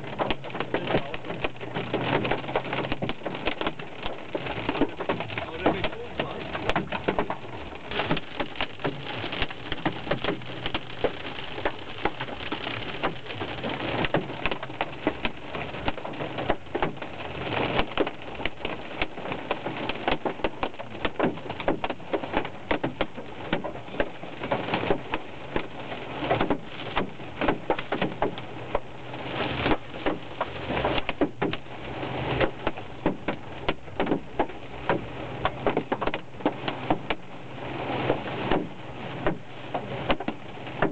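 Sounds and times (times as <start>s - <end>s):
hail clattering on car roof: 0.0s - 40.9s
low hum of moving car: 0.0s - 40.9s.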